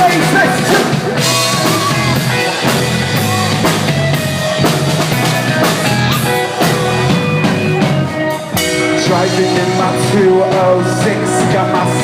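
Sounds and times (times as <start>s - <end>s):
drum-kit beat: 0.0s - 12.0s
live pop-rock band: 0.0s - 12.0s.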